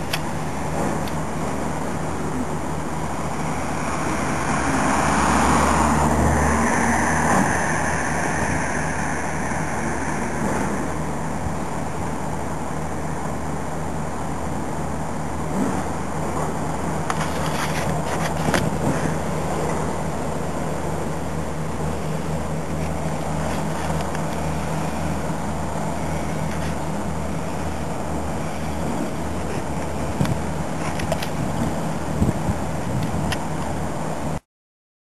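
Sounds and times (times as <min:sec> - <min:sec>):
diesel locomotive engine running: 0:00.0 - 0:34.4.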